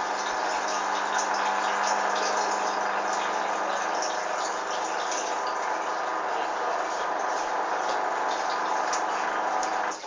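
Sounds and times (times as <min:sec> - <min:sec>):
drain pump humming: 0:00.0 - 0:10.0
rushing gurgling water: 0:00.0 - 0:10.0.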